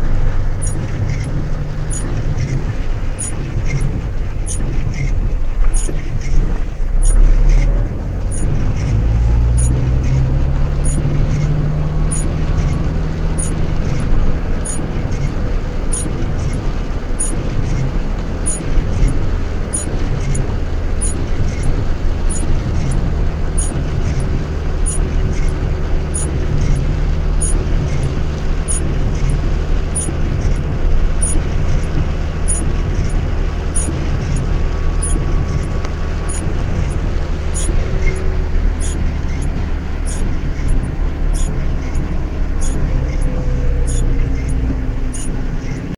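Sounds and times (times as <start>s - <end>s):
engine and tyre rumble: 0.0s - 45.9s
rain: 0.0s - 45.9s.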